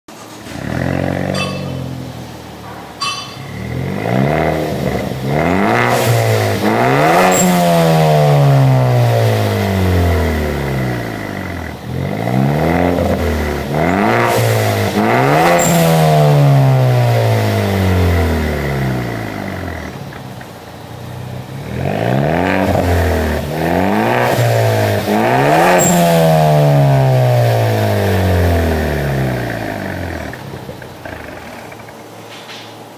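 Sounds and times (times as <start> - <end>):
car engine revving: 0.2 - 20.2, 20.8 - 31.9.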